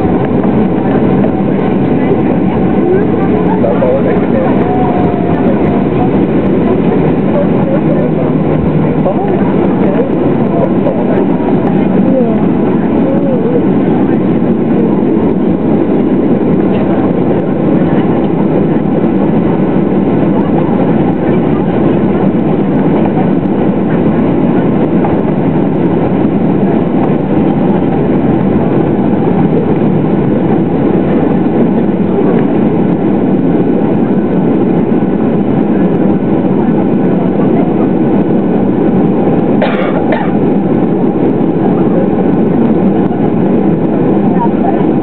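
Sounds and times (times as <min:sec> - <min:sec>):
airframe rumble while taxiing: 0:00.0 - 0:45.0
jet engines running at low thrust: 0:00.0 - 0:45.0.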